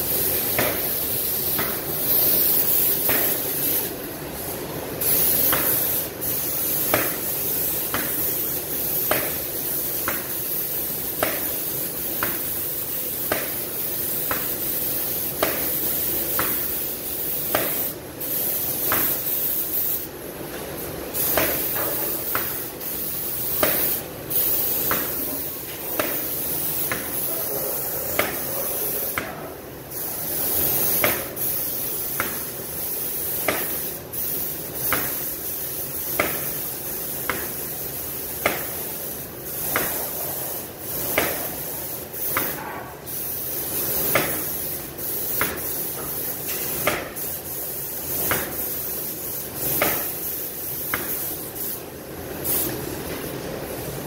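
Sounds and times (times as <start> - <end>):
paint spray gun hissing: 0.0 - 54.0.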